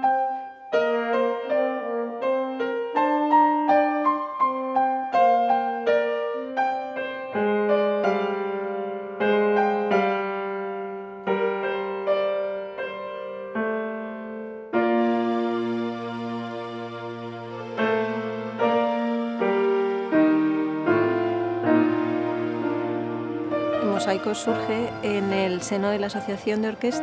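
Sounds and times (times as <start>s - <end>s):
slow gentle piano piece: 0.0s - 27.0s.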